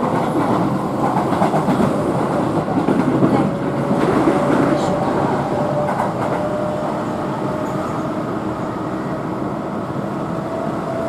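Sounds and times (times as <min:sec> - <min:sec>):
electric train running rumble: 0:00.0 - 0:11.0.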